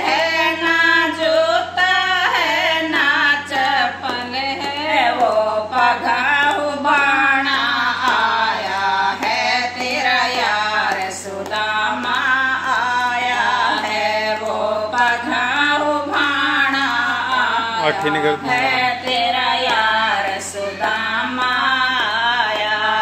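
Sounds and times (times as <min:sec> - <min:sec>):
hand claps: 0:00.0 - 0:23.0
women singing unaccompanied: 0:00.0 - 0:23.0.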